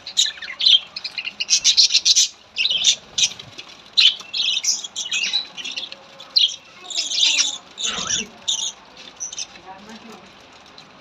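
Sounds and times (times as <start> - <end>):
budgerigars chattering and squawking: 0.0 - 9.9.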